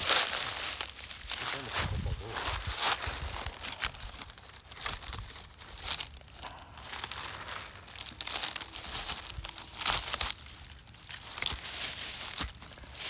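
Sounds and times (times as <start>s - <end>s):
feet crunching dry leaves: 0.0s - 13.0s.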